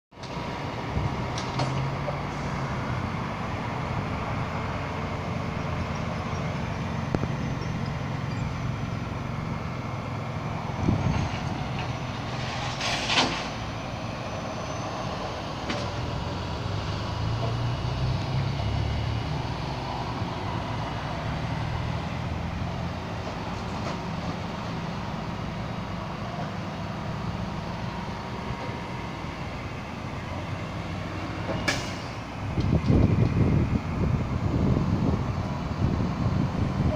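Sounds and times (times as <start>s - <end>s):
vehicle engines rumbling: 0.1s - 36.9s.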